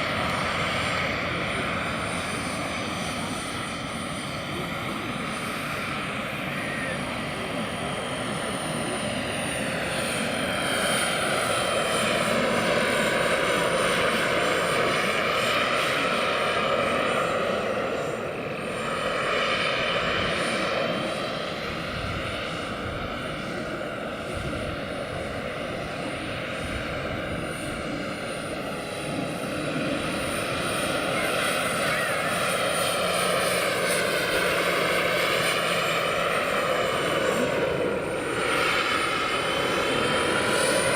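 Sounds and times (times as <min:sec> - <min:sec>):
model helicopter flying: 0:00.0 - 0:40.9.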